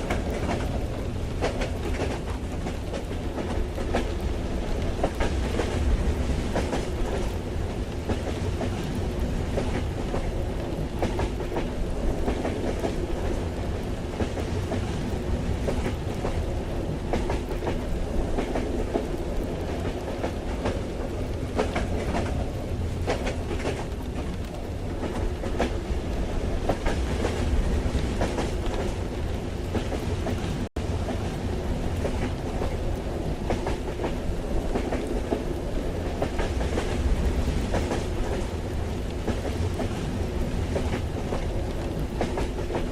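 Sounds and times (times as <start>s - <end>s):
train rumble inside carriage: 0.0s - 42.9s.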